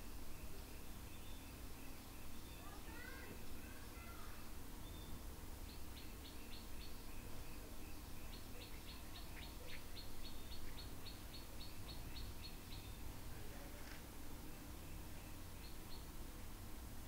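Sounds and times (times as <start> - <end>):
small bird chirping: 0.0 - 16.2
faint low hum: 0.0 - 17.0.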